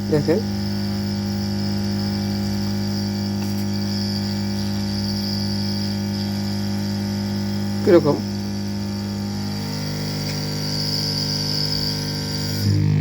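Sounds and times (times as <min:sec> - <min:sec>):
electric motor humming: 0:00.0 - 0:13.0.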